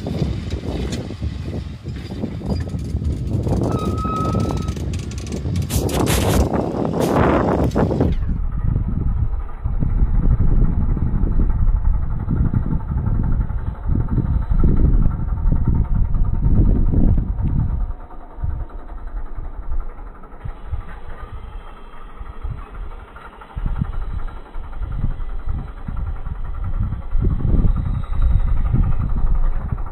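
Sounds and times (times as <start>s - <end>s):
tractor diesel engine rumbling: 0.0s - 29.9s.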